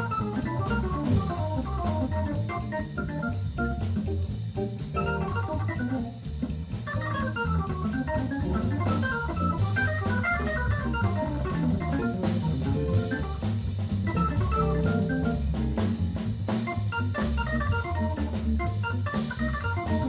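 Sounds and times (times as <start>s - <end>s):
drum kit cymbals: 0.0s - 20.0s
organ playing jazz solo: 0.0s - 20.0s.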